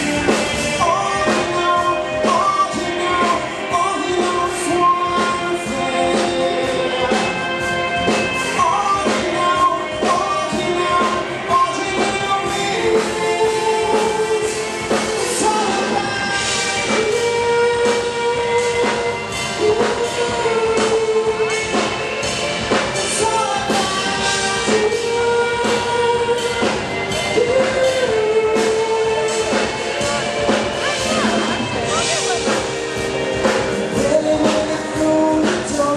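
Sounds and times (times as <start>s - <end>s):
live rock band: 0.0s - 35.9s.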